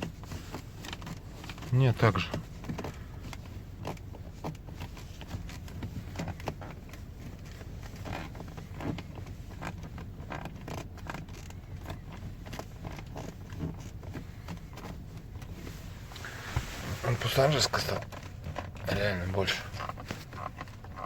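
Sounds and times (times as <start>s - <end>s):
car door handle creaks and clicks: 0.0s - 21.0s.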